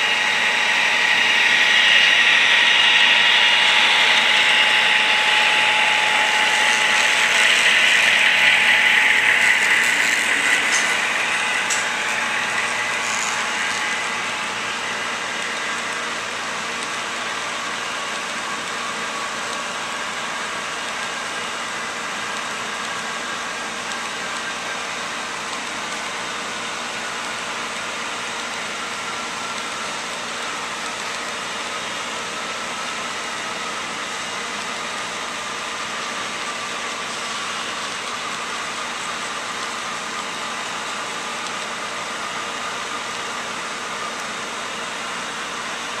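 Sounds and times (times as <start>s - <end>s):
model trains hissing and whining: 0.0s - 46.0s.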